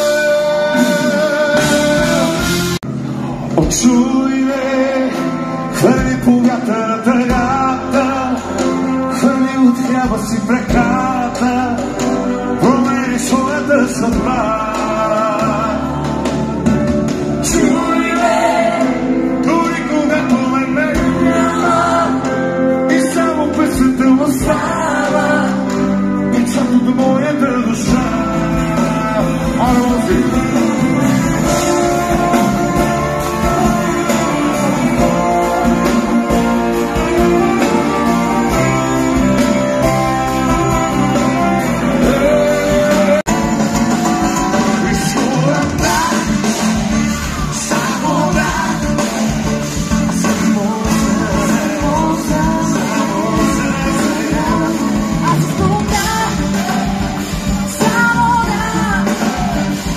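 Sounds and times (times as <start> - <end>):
live pop band playing: 0.0 - 59.9
male lead vocal: 0.0 - 59.9.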